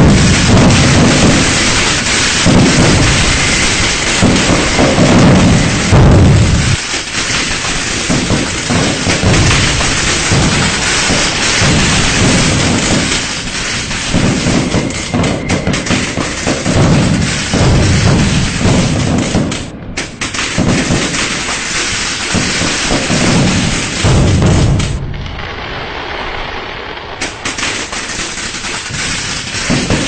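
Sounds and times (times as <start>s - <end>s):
firecrackers cracking and booming: 0.0s - 30.0s.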